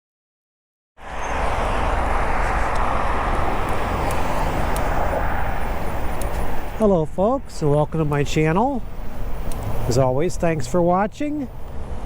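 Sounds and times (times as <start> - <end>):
bicycle tyres rolling on pavement: 1.0 - 12.0.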